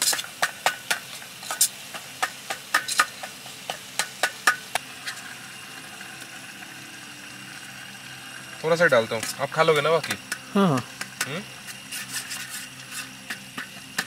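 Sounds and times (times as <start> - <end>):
gas stove hiss: 0.0 - 14.0.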